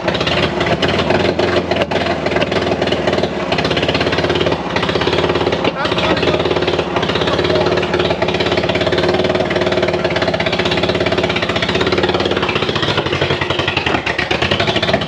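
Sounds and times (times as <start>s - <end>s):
pickup engine running roughly: 0.0s - 15.0s.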